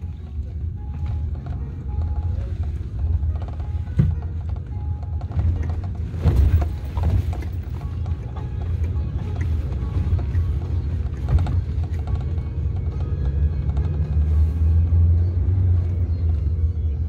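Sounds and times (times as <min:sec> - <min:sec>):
engine and road rumble: 0:00.0 - 0:17.0
vehicle knocks and rattles: 0:00.6 - 0:14.5.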